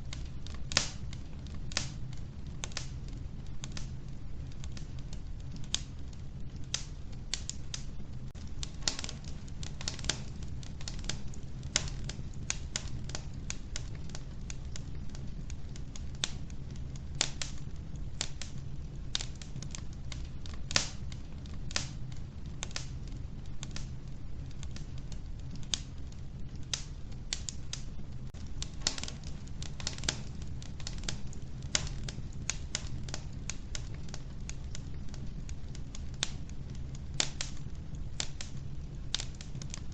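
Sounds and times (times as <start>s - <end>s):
logs crackling and popping: 0.0s - 39.9s
low fire rumble: 0.0s - 39.9s.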